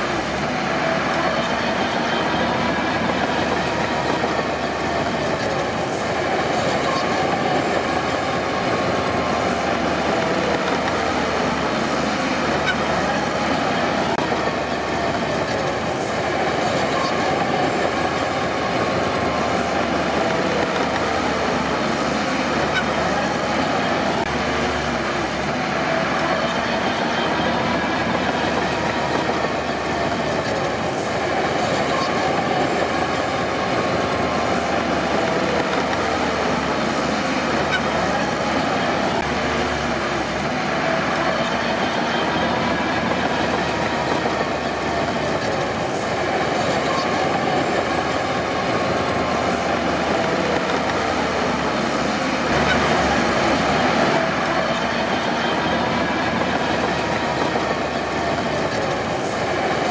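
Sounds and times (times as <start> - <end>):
bulldozer diesel engine: 0.0 - 59.9
steel tracks clanking: 0.0 - 59.9
track running gear squealing: 0.0 - 59.9.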